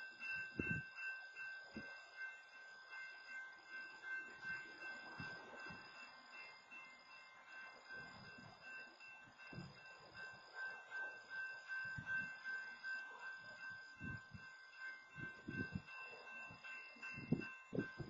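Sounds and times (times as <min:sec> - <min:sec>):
railroad crossing bell ringing: 0:00.0 - 0:18.0.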